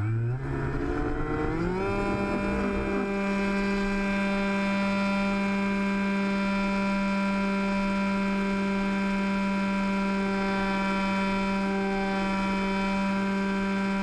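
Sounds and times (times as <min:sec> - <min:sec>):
electric motor and propeller whine: 0:00.0 - 0:14.0.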